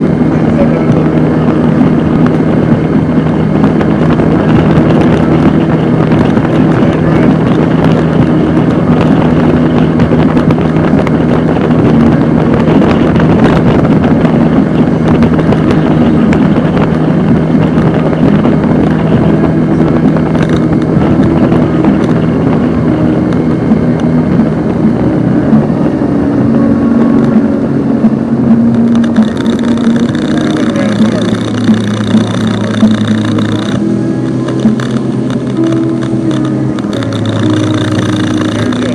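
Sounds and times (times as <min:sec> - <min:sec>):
boat motor running: 0:00.0 - 0:38.9
wind and water rushing: 0:00.0 - 0:38.9.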